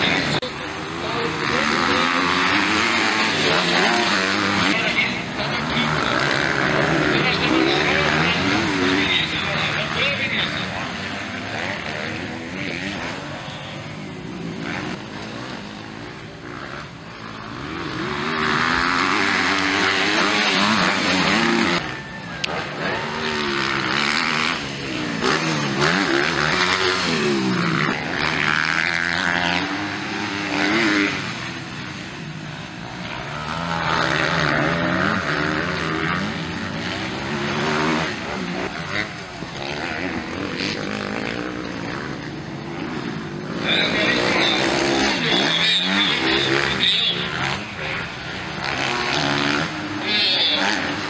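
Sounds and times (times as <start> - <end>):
motocross bike engines revving: 0.0 - 51.0.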